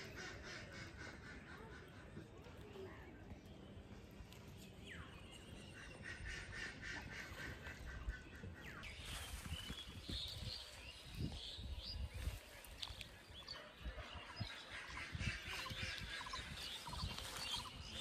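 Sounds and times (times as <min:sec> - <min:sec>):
birds calling: 0:00.0 - 0:02.8, 0:03.4 - 0:18.0.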